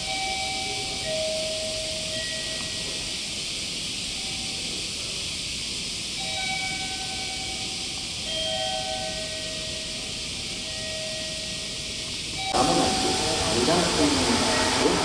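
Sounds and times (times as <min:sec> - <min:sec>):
cicada chorus hissing: 0:00.0 - 0:15.0.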